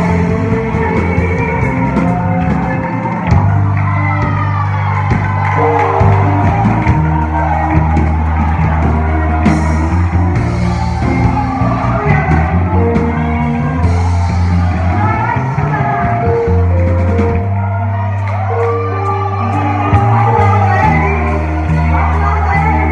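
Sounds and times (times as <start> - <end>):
live band music with singing: 0.0 - 22.9.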